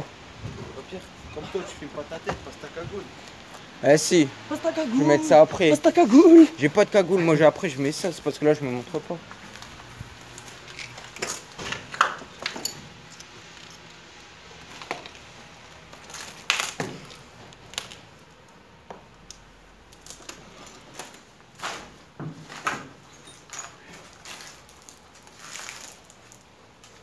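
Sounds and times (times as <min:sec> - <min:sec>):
people moving about on foot: 0:00.0 - 0:03.8, 0:04.8 - 0:19.1, 0:19.8 - 0:27.0.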